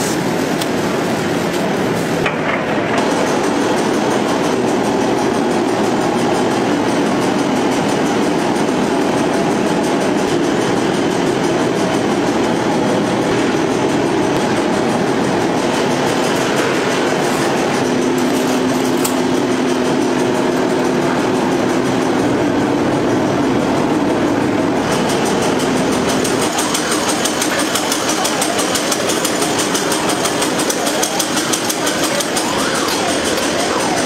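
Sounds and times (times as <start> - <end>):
conveyor line mechanical din: 0.0 - 34.0
steady hum: 0.0 - 34.0.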